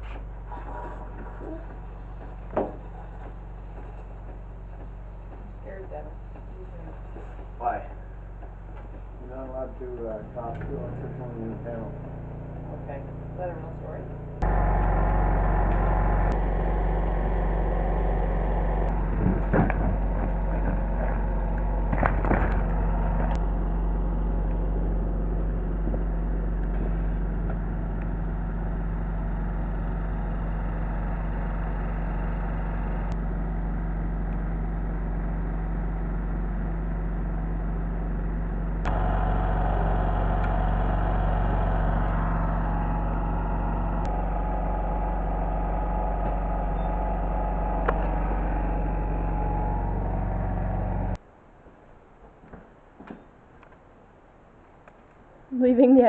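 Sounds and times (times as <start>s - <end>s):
car engine hum: 0.0s - 51.2s
road noise: 0.0s - 56.0s.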